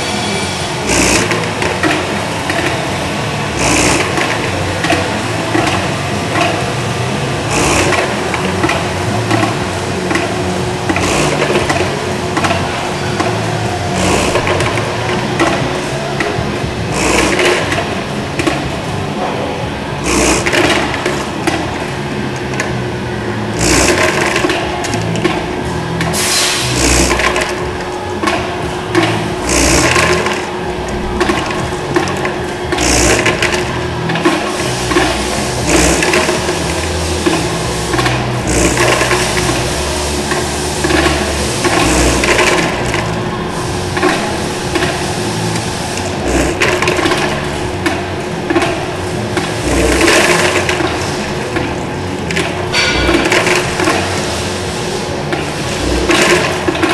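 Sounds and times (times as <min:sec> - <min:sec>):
continuous rattling: 0:00.0 - 0:56.9
motor hum: 0:00.0 - 0:56.9
parts thumping and clattering: 0:00.0 - 0:56.9.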